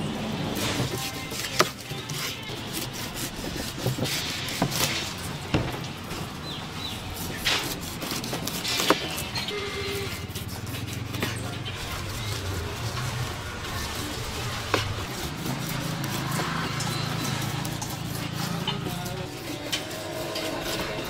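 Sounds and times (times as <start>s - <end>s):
knife cutting pineapple skin: 0.6s - 21.0s.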